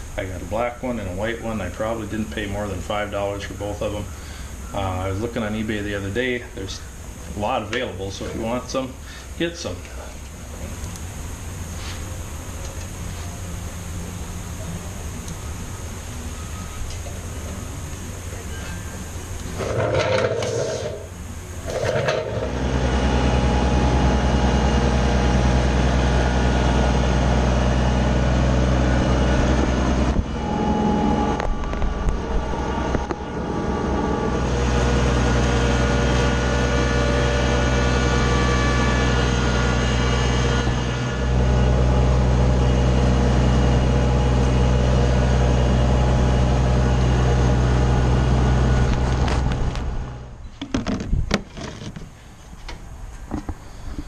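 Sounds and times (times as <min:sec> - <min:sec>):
tractor diesel engine running: 0:00.0 - 0:50.4.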